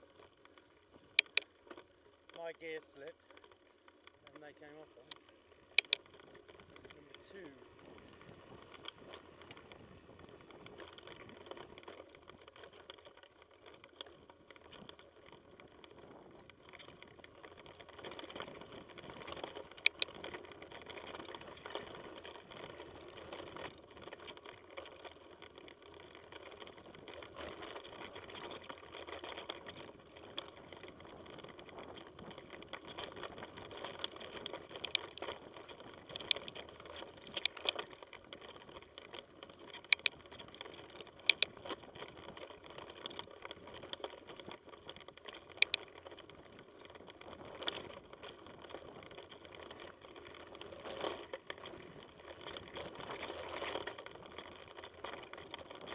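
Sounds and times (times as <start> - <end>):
bike tyres rattling on dirt: 0.0 - 55.9.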